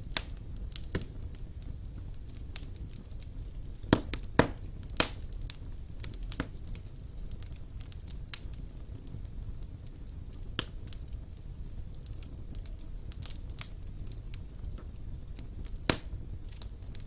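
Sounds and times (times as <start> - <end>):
sharp pops from fire: 0.0 - 17.0
wood fire rumbling and crackling: 0.0 - 17.0.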